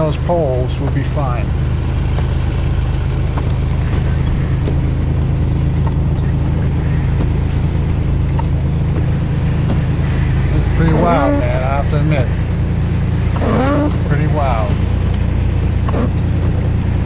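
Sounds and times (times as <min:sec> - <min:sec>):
car engine and tyres droning: 0:00.0 - 0:17.0.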